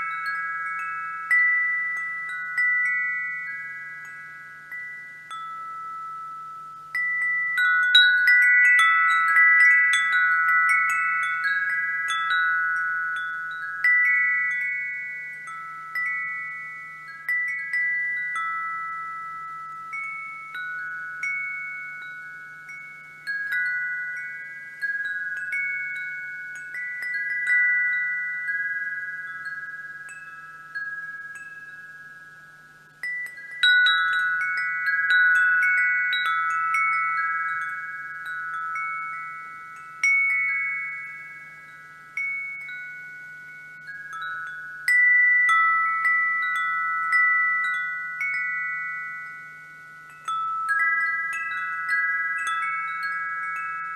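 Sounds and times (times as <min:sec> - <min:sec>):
wind chime ringing: 0:00.0 - 0:53.9.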